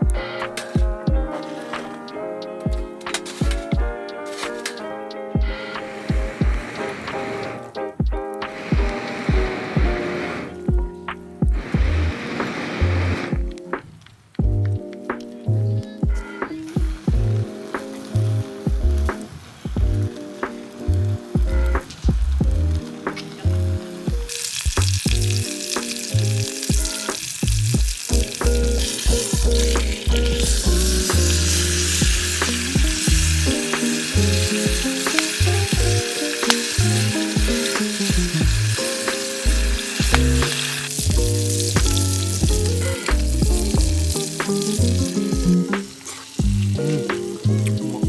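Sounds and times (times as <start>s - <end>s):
background music with beat: 0.0s - 48.0s
food sizzling in frying: 0.0s - 48.0s.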